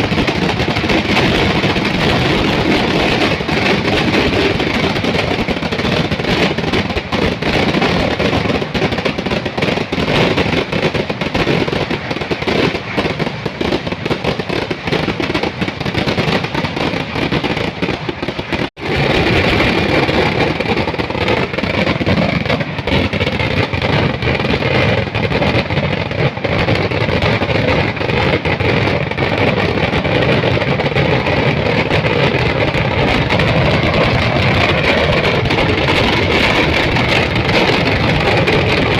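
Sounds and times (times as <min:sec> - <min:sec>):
fireworks crackling barrage: 0:00.0 - 0:38.9.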